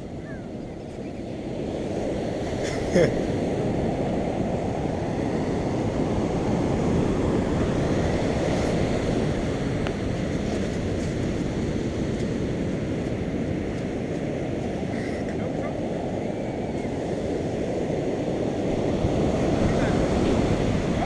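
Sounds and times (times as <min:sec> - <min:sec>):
surf at the shore: 0:00.0 - 0:21.0
wind: 0:00.0 - 0:21.0.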